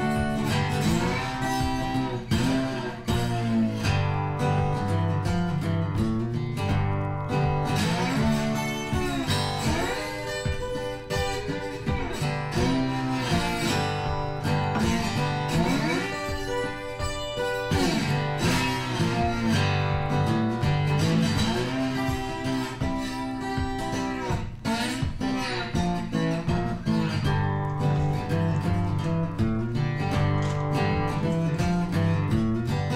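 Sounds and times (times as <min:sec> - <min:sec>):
guitar plucked and strummed: 0:00.0 - 0:32.9
steady beat: 0:00.0 - 0:32.9.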